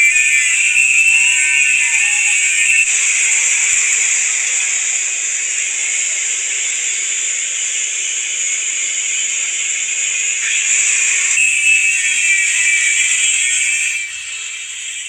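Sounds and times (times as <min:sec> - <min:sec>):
thin whistling tone: 0:00.0 - 0:15.0
welding arc hissing and crackling: 0:00.0 - 0:15.0.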